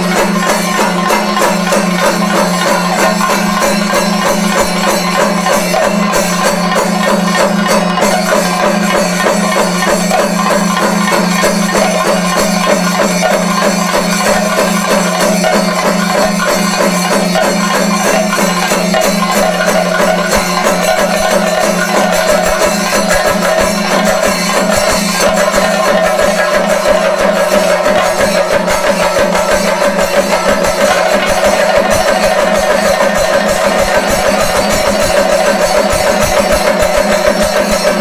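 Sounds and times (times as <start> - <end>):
fast stick strokes on drums: 0.0 - 38.0
hand cymbals jingling: 0.0 - 38.0.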